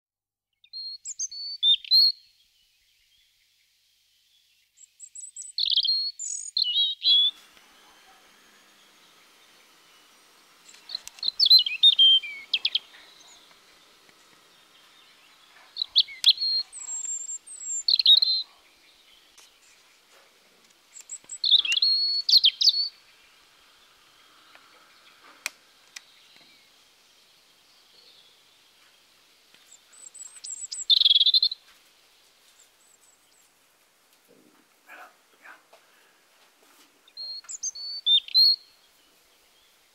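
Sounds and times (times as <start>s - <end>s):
robin singing: 0.6s - 3.6s, 4.2s - 33.6s, 37.0s - 39.9s.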